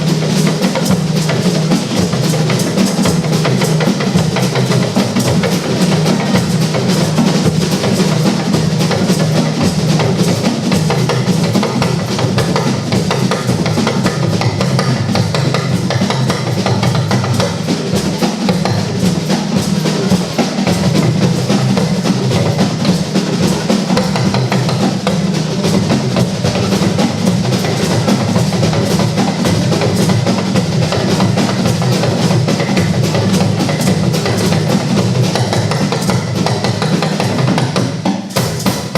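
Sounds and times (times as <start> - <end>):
drum and percussion music: 0.0 - 38.9.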